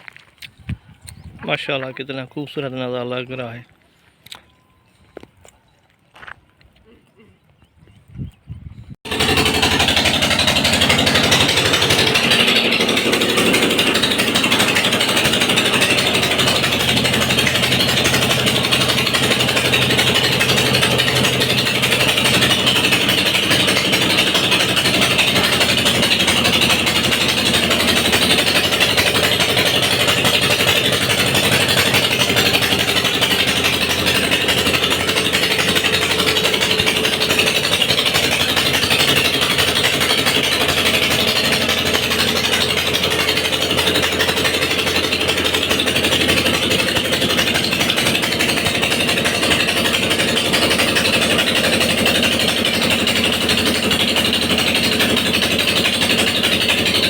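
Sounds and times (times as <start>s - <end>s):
small engine running: 9.0s - 57.0s.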